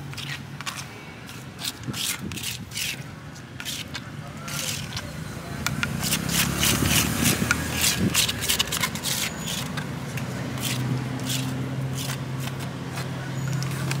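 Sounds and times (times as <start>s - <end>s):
scraping in a stone mortar: 0.1s - 5.1s, 5.8s - 14.0s.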